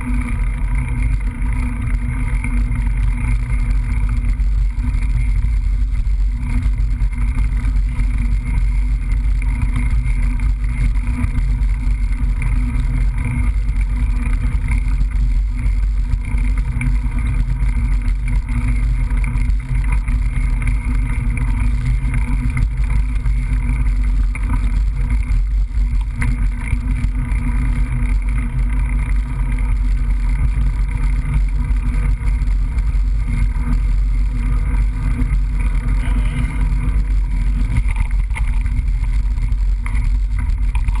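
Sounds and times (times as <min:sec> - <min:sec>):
bike riding noise: 0:00.0 - 0:41.0.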